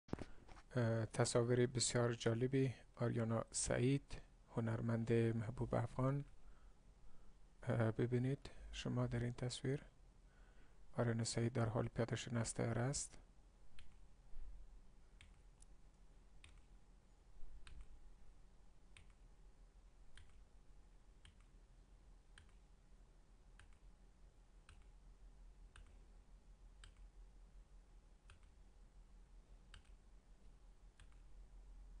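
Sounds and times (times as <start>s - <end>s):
low steady hum: 0.2s - 32.0s.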